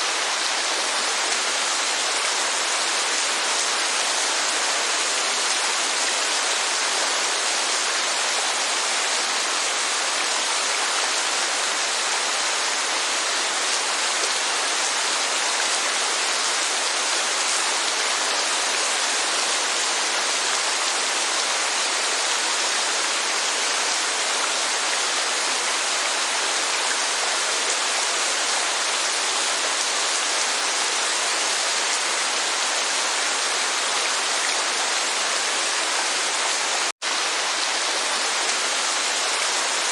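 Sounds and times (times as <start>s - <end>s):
heavy rain rushing: 0.0s - 39.9s.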